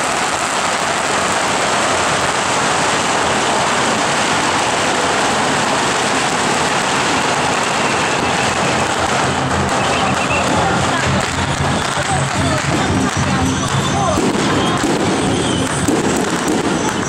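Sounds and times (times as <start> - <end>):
firecrackers popping: 0.0 - 17.0.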